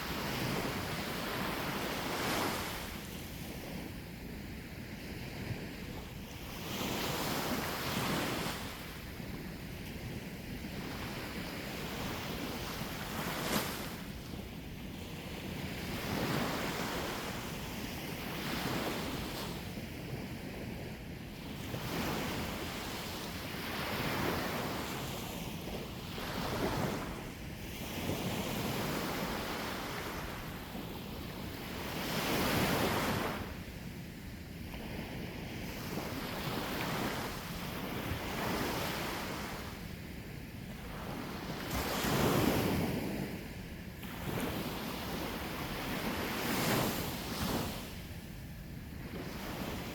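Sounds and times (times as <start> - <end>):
sea waves breaking on shore: 0.0 - 20.5, 21.4 - 33.6, 40.8 - 48.1.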